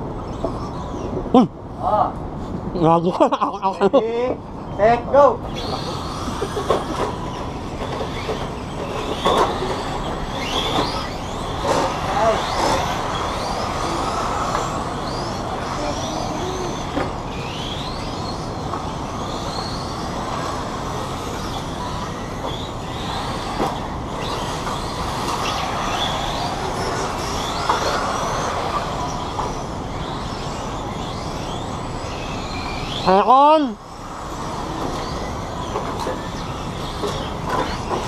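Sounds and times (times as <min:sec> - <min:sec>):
rc car motors whining: 0:00.0 - 0:02.1, 0:03.6 - 0:38.0
steady rushing noise: 0:00.0 - 0:38.0.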